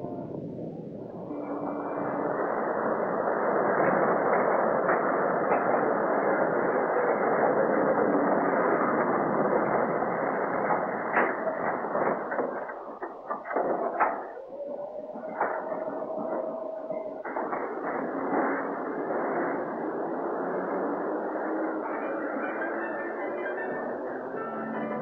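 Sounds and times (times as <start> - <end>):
train wheels rushing on track: 0.0 - 25.0.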